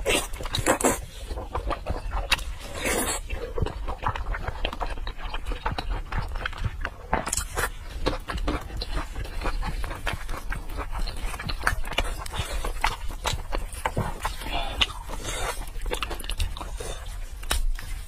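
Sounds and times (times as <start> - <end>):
wet chewing clicks and smacks: 0.0 - 18.0.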